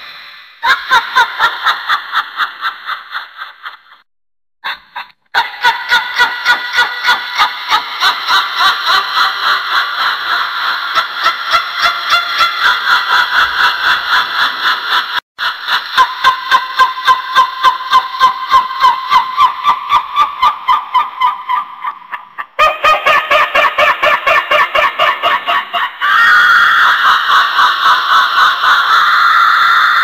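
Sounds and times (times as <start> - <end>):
shrill cackling laughter: 0.0 - 4.0, 4.6 - 30.0.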